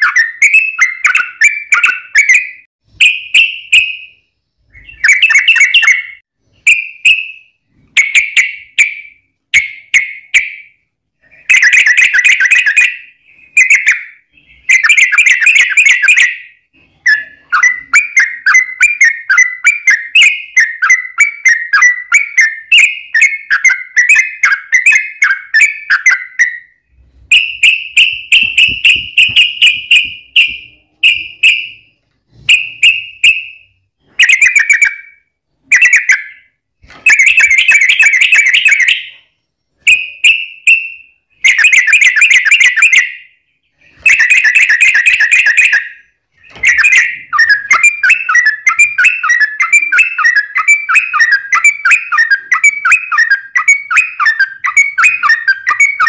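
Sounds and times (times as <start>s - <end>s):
bulbul singing: 0.0s - 56.0s.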